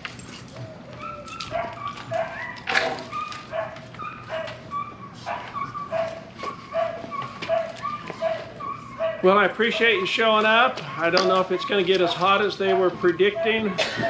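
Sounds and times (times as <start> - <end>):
dogs barking excitedly: 0.0 - 14.0.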